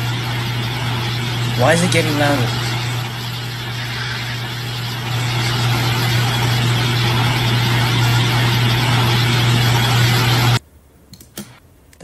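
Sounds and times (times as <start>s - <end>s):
loud low hum: 0.0s - 10.6s.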